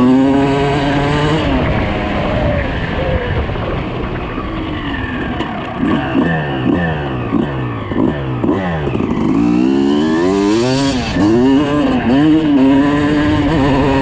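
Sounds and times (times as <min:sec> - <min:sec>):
two-stroke engine revving: 0:00.0 - 0:03.0, 0:05.7 - 0:14.0.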